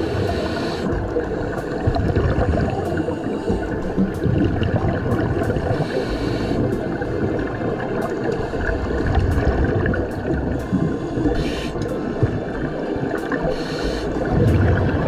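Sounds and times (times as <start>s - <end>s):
muffled underwater rumble: 0.0s - 15.0s
regulator bubbles hissing: 0.0s - 15.0s
sharp underwater clicks: 0.0s - 15.0s.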